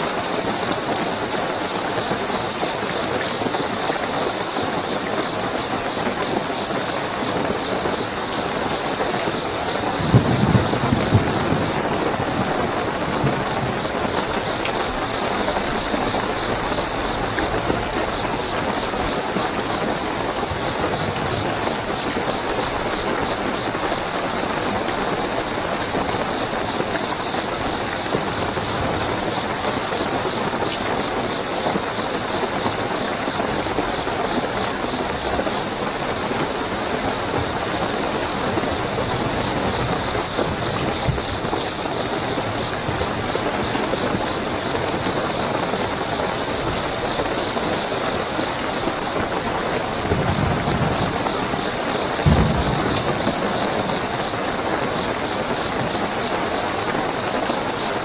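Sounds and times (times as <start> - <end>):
crickets trilling: 0.0 - 58.0
heavy rainfall: 0.0 - 58.0.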